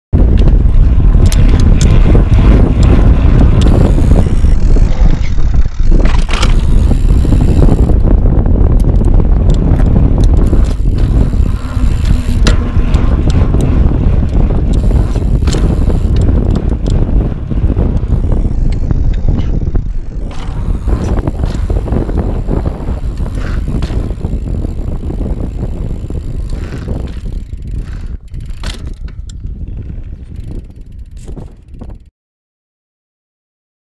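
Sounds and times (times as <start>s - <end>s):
wind buffeting microphone: 0.1s - 32.1s
bike knocks and rattles: 0.2s - 32.1s.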